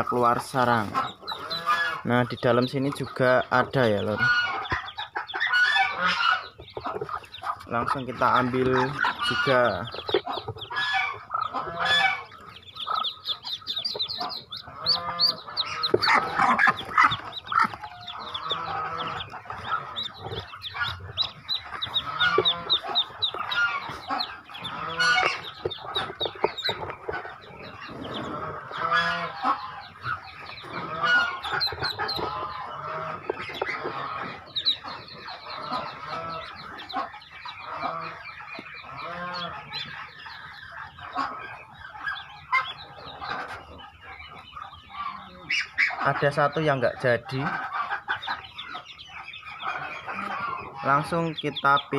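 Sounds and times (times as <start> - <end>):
adult fowl clucking: 0.0 - 51.9
ducklings peeping: 0.0 - 51.9.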